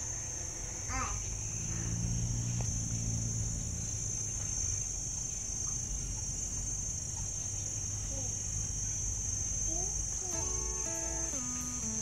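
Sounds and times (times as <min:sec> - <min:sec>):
insects chirring: 0:00.0 - 0:12.0
low steady hum: 0:00.0 - 0:12.0.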